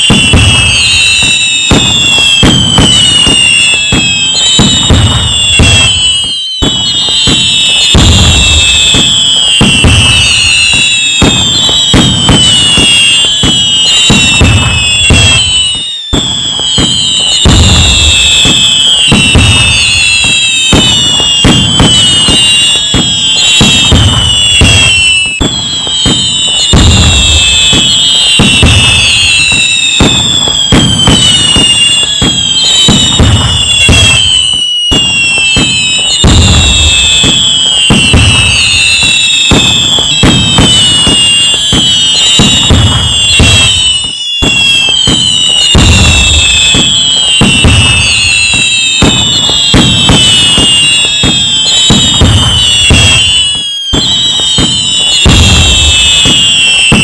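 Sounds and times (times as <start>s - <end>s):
fireworks bangs and crackles: 0.0s - 57.0s
fireworks whistling: 0.0s - 57.0s.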